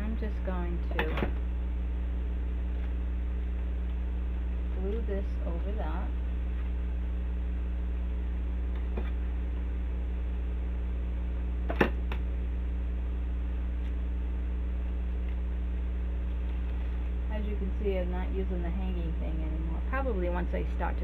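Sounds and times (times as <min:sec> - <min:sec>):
desk fan humming: 0:00.0 - 0:21.0.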